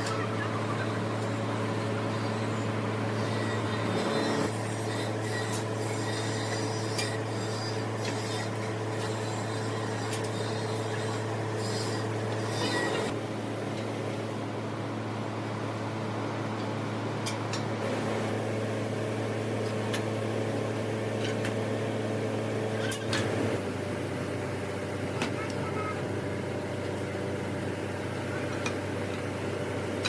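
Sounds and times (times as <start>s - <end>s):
low hum of foundry equipment: 0.0s - 30.0s.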